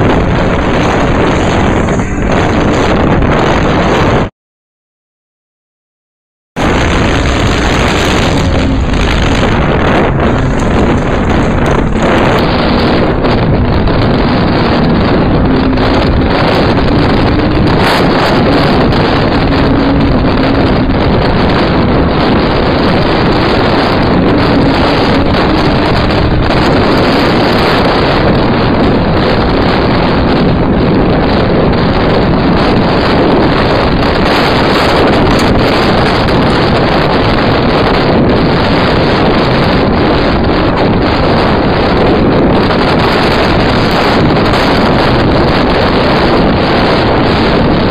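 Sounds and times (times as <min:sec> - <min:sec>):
racing car engine running hard: 0:00.0 - 0:04.3, 0:06.6 - 0:47.9
wind buffeting microphone: 0:00.0 - 0:04.3, 0:06.6 - 0:47.9.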